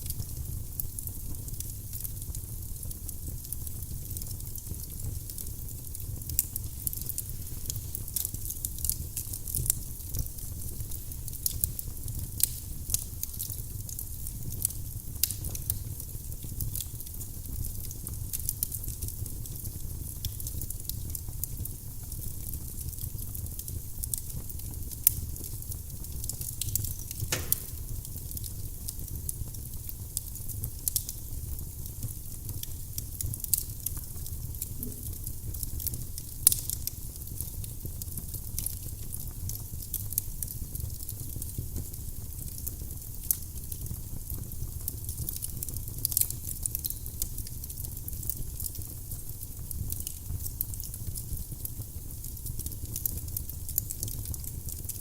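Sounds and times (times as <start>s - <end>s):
firewood crackling in a fireplace: 0.0s - 55.0s.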